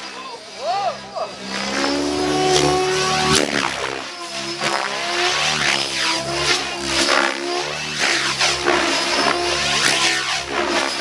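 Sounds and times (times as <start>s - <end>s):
helicopter rotor blades whooshing: 0.0s - 11.0s
pitched drone of spinning rotor head: 0.0s - 11.0s.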